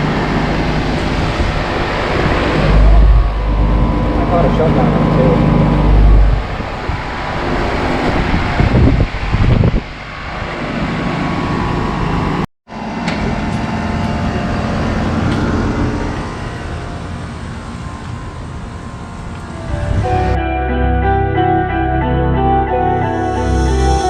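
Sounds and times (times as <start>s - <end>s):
compressor low hum: 0.0s - 20.4s
condenser fan rushing: 0.0s - 20.4s.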